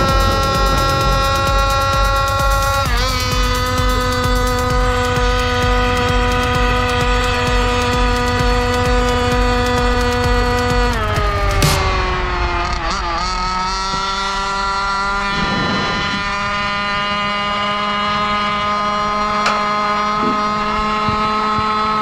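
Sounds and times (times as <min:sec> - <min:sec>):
two-stroke scooter engine cruising: 0:00.0 - 0:22.0.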